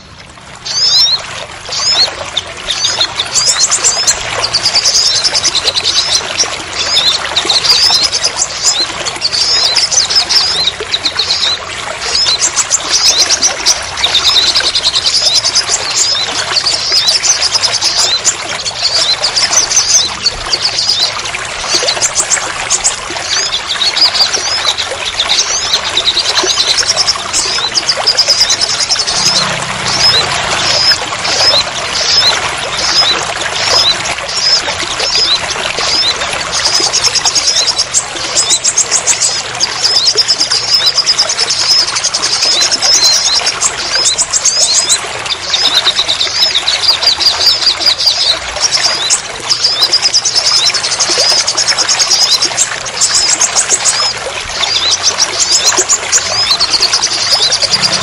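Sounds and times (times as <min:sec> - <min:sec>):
water pouring: 0:00.0 - 0:58.0.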